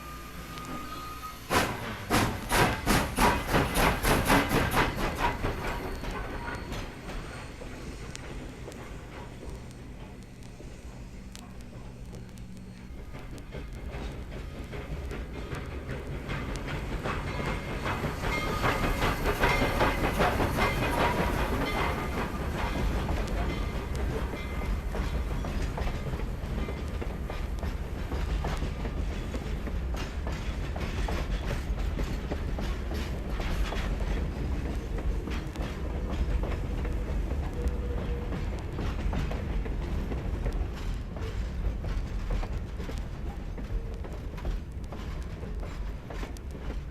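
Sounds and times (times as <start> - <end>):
train wheels clicking on rails: 0.0 - 46.9.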